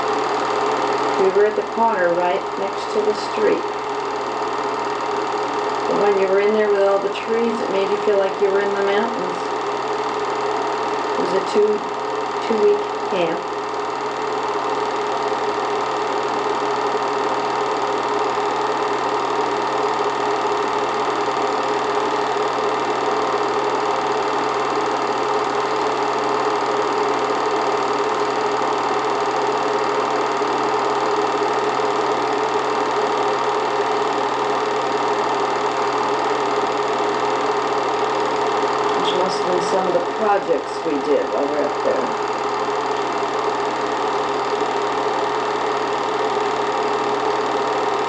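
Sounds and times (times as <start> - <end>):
film projector whirring: 0.0 - 48.0.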